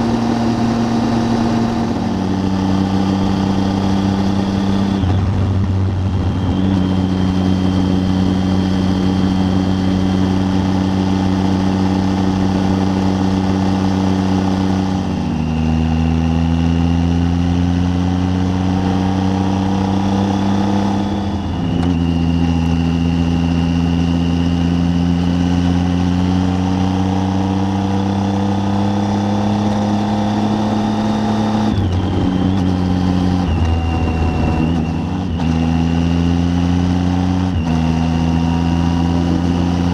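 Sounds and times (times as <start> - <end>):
motorcycle engine accelerating: 0.0 - 39.9
rush of riding noise: 0.0 - 39.9.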